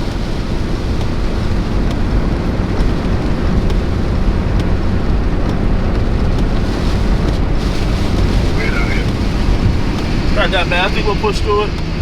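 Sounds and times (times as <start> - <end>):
rain ticking on truck: 0.0 - 12.0
road and engine drone: 0.0 - 12.0.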